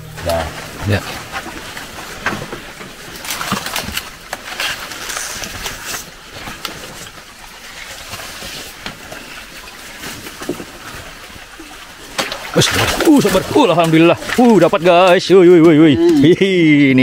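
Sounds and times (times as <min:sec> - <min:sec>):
paddle splashing in water: 0:00.0 - 0:16.3
leaves scraping boat hull: 0:00.0 - 0:17.0.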